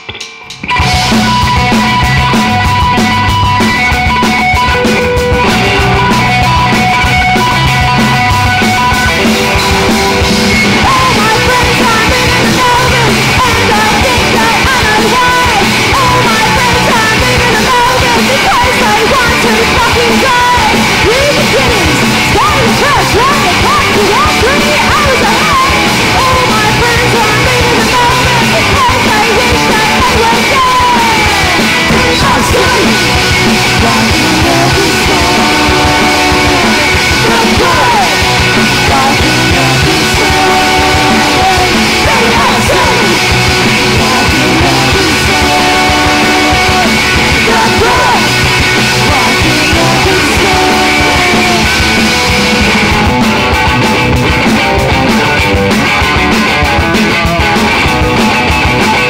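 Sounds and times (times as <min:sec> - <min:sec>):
electric guitars and bass: 0:00.0 - 0:59.0
woman singing lead: 0:04.4 - 0:52.5.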